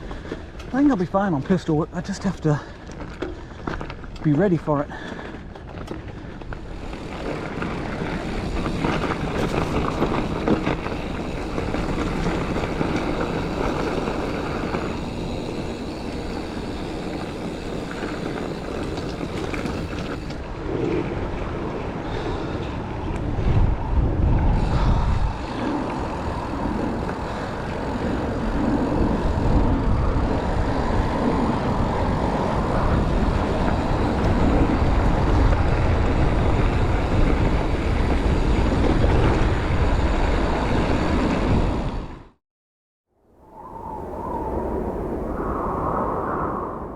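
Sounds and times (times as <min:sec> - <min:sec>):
bike tyre and frame rattle: 0:00.0 - 0:42.3
low wind buffeting: 0:00.0 - 0:42.4, 0:43.2 - 0:46.9
wind rush on microphone: 0:00.0 - 0:42.4, 0:43.2 - 0:46.9.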